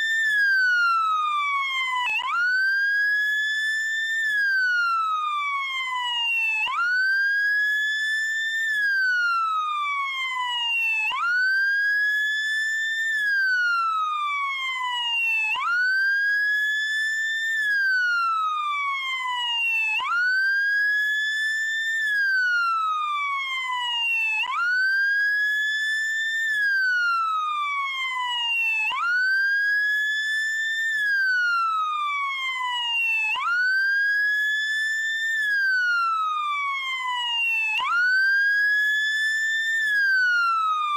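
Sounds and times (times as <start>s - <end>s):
police siren wailing: 4.2s - 7.1s, 8.8s - 16.0s, 17.4s - 21.0s, 21.6s - 40.9s.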